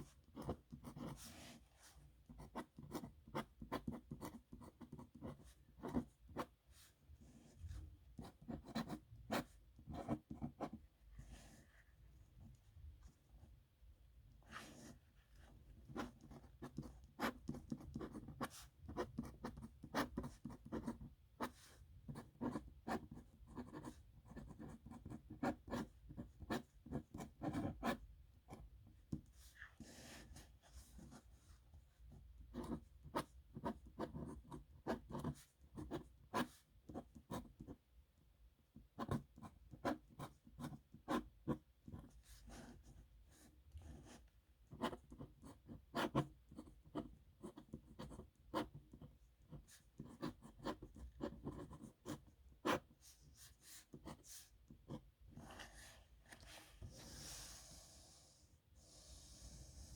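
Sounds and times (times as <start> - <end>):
nib pen scratching paper: 0.0 - 6.6, 8.2 - 11.7, 14.4 - 31.5, 32.4 - 37.8, 38.9 - 58.2.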